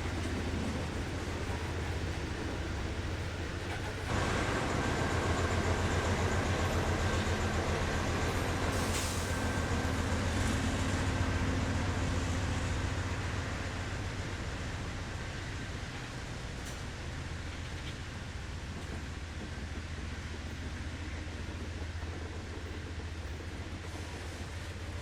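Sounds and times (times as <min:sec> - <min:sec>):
diesel locomotive engine drone: 0:00.0 - 0:25.0.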